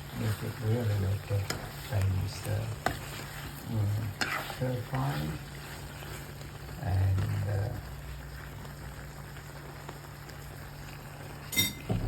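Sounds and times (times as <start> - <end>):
stir fry sizzling in a pan: 0.0 - 12.0.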